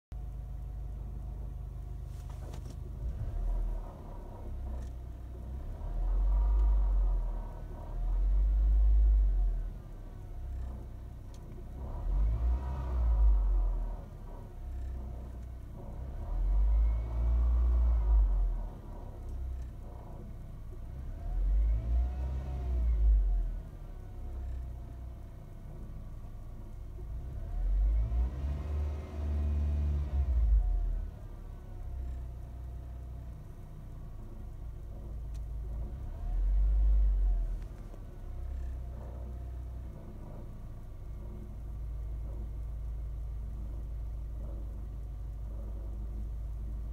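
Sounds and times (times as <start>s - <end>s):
car engine revving: 2.1s - 24.9s, 26.6s - 32.5s, 34.2s - 46.9s.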